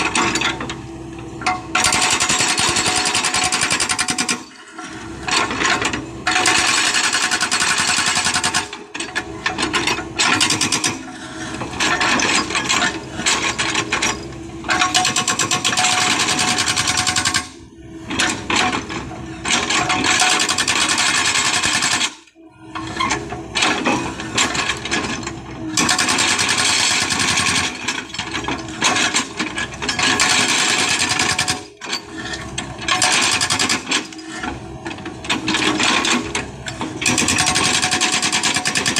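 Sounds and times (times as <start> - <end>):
hydraulic breaker hammering rock: 0.0 - 17.5, 18.1 - 22.2, 22.9 - 38.9.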